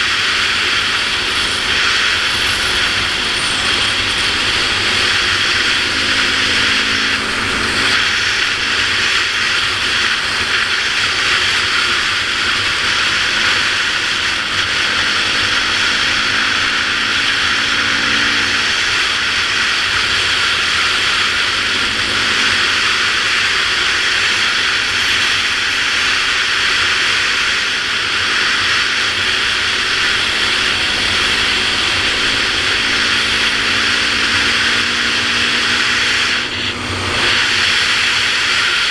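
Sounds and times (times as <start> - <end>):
dirt bike engine: 0.0 - 38.9.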